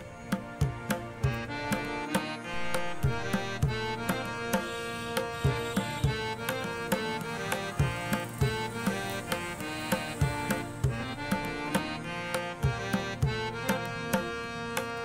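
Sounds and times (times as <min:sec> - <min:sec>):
regular drum beat: 0:00.0 - 0:15.0
sustained melodic notes: 0:00.0 - 0:15.0.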